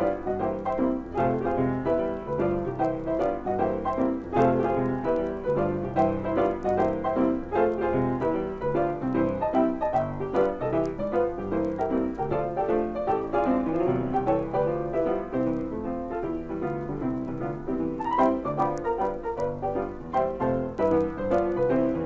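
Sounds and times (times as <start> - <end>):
piano quick run of notes: 0.0 - 22.0.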